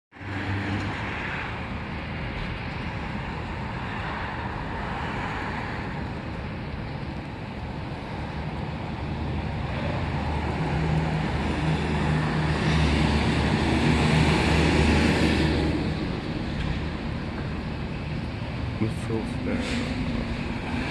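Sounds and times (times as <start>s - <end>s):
road traffic noise: 0.1s - 20.9s
vehicle engine: 0.1s - 20.9s.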